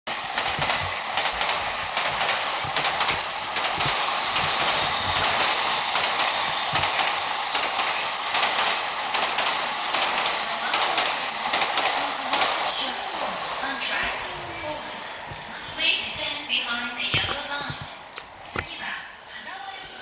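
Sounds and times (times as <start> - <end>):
train rushing hiss: 0.1 - 16.3
train clicks and clatter: 0.1 - 20.0.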